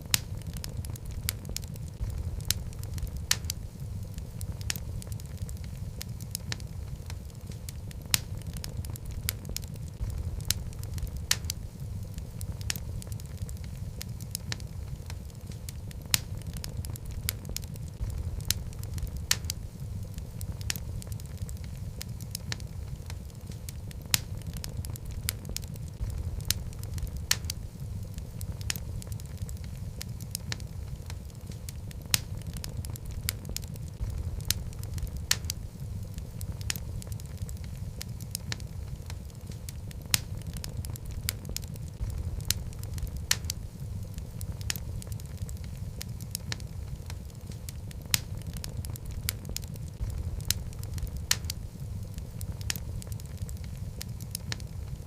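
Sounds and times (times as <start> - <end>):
fireplace flame rumble: 0.0 - 55.0
logs crackling and popping: 0.0 - 55.0.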